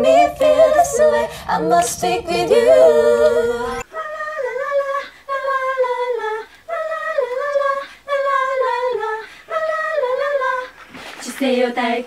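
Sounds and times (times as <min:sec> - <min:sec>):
women singing a cappella: 0:00.0 - 0:12.0.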